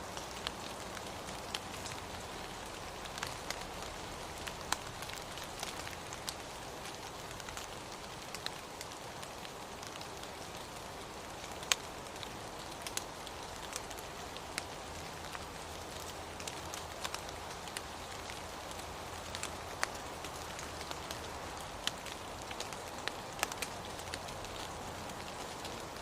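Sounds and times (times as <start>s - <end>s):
steady rain hiss: 0.0s - 26.0s
water drip ticks: 0.1s - 26.0s.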